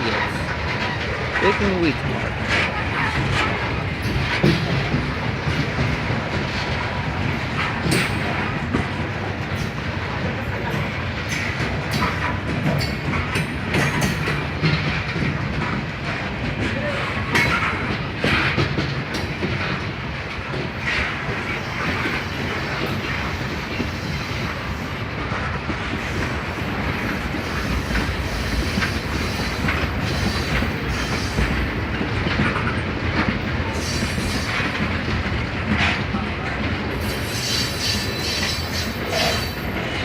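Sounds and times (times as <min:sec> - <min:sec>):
train cars rumbling past: 0:00.0 - 0:40.0
wheels clacking over rail joints: 0:00.0 - 0:40.0.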